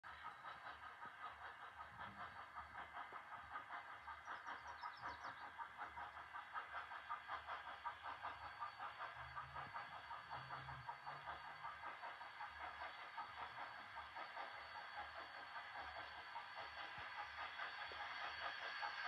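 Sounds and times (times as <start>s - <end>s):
distant steam locomotive chuffing: 0.0s - 19.0s.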